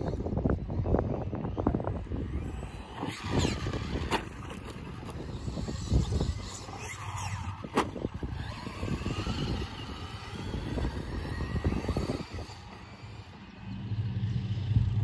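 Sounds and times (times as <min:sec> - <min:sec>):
electric motors whining: 0:00.0 - 0:15.0
wind rumble on microphone: 0:00.0 - 0:15.0.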